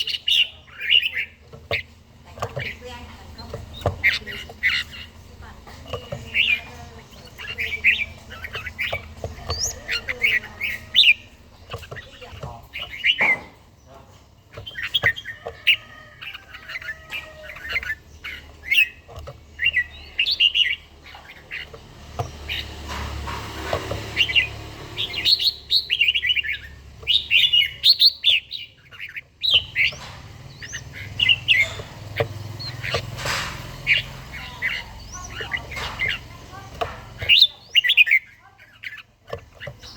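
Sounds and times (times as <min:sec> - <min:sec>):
birds singing whistled phrases: 0:00.0 - 0:39.9.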